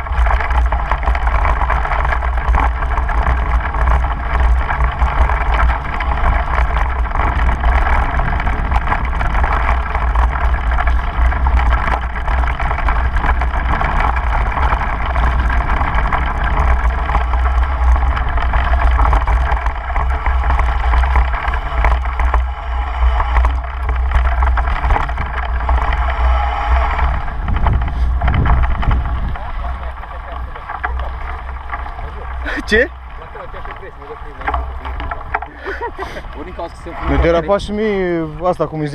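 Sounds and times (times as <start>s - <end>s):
bike rolling on grass: 0.0s - 38.9s
wind rushing over microphone: 0.0s - 38.9s.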